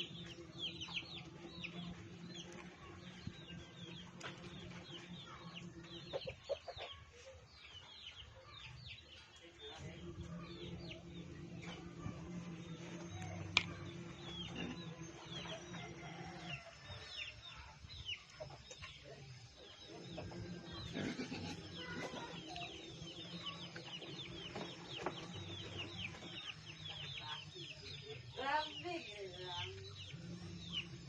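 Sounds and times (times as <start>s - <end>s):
low steady hum: 0.0s - 6.6s, 9.6s - 31.0s
chickens chirping: 0.0s - 31.0s.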